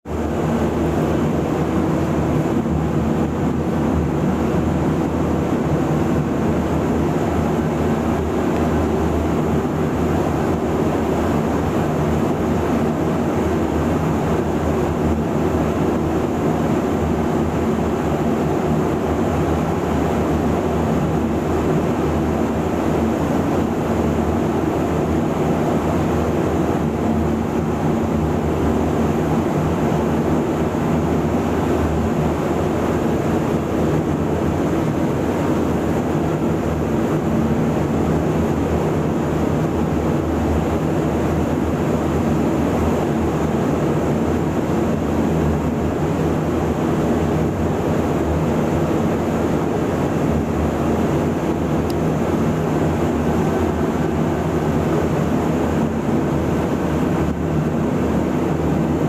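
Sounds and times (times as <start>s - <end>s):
air extraction hum: 0.1s - 59.0s.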